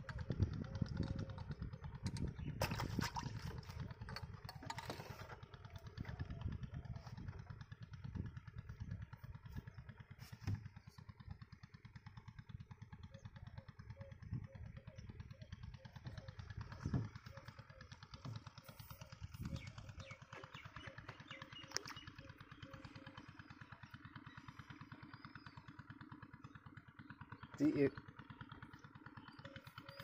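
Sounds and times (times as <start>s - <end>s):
small engine puttering: 0.0s - 30.0s.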